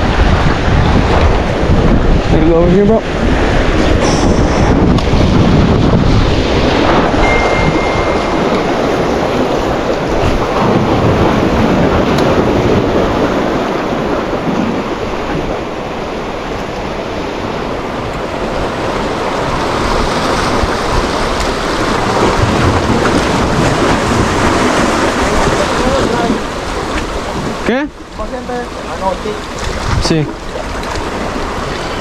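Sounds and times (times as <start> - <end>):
ocean surf washing: 0.0 - 32.0
wind buffeting microphone: 0.0 - 32.0.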